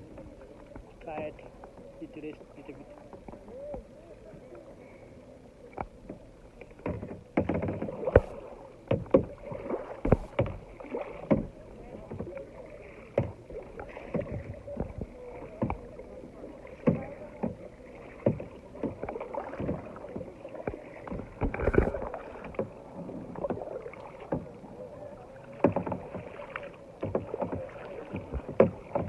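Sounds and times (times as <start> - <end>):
low wash of water: 0.0 - 29.0
paddle knocks and splashes: 0.0 - 29.0.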